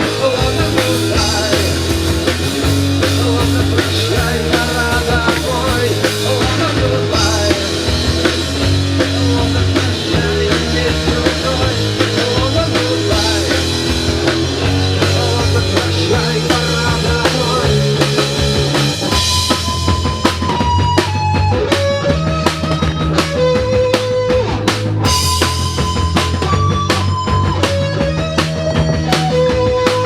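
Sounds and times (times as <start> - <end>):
distorted electric guitar: 0.0 - 30.0
rock band playing: 0.0 - 30.0
steady drum beat: 0.0 - 30.0.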